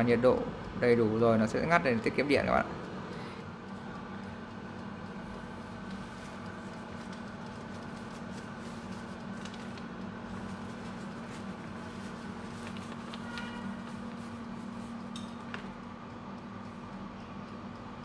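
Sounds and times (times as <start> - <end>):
air fryer fan humming: 0.0 - 18.0.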